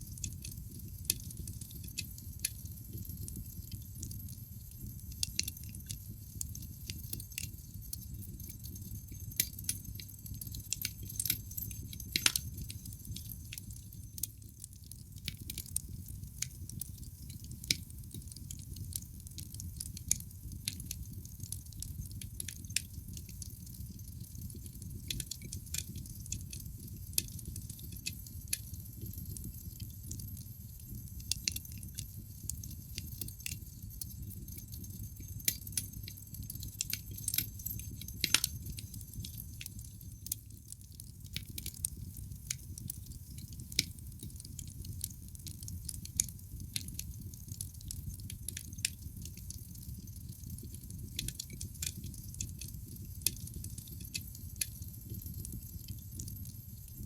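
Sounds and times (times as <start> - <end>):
low rumble of flames: 0.0 - 57.0
logs crackling and popping: 0.2 - 57.0.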